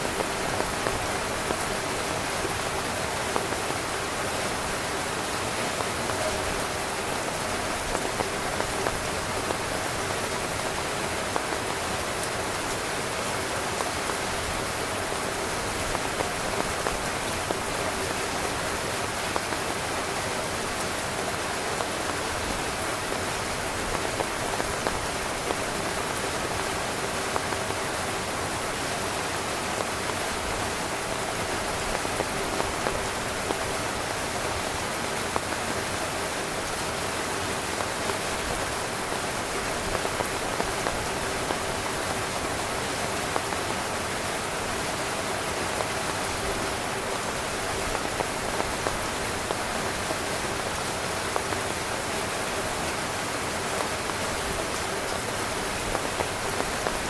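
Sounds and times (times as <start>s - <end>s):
heavy rain drumming on tent fabric: 0.0s - 57.0s.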